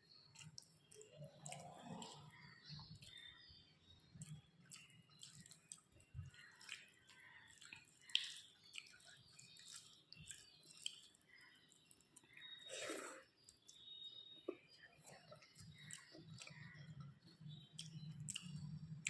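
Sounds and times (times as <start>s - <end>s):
wet chewing: 0.1s - 3.5s, 4.1s - 19.0s.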